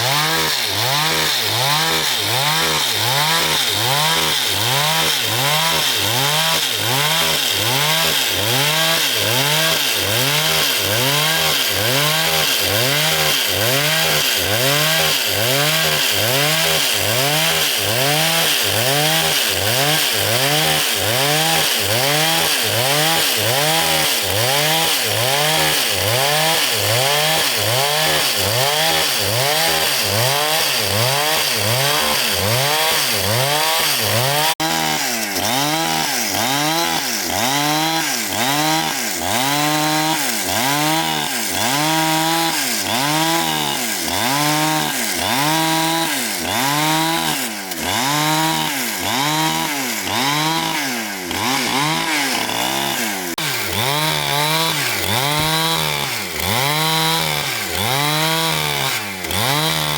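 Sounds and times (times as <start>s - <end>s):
power saw cutting timber: 0.0s - 59.9s.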